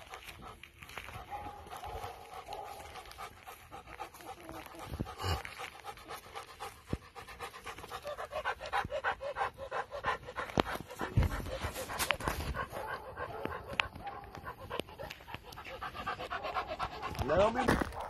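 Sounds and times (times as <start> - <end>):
dog panting hard: 0.0 - 18.0.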